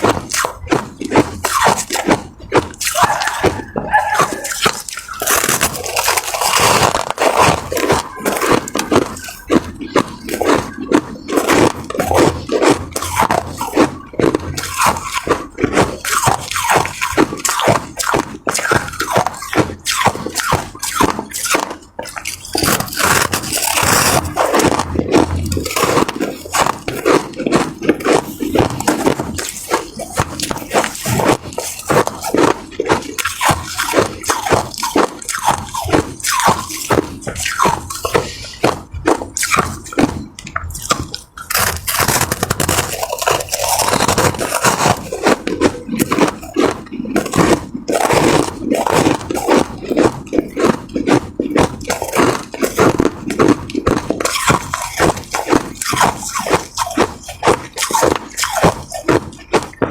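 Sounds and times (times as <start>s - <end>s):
ice being chewed: 0.0s - 59.9s
wet mouth sounds: 0.0s - 59.9s.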